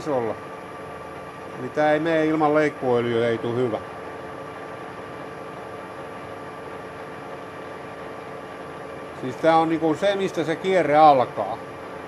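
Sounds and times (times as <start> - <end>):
faint steady whine: 0.0 - 12.0
lathe running with hum: 0.0 - 12.0.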